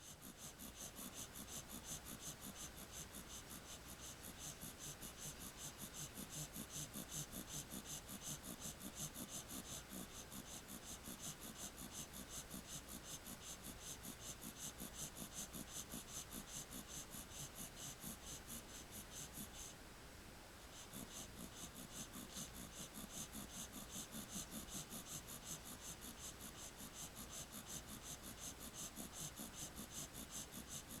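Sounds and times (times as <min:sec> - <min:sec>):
puppy snoring softly: 0:00.0 - 0:19.8, 0:20.6 - 0:31.0.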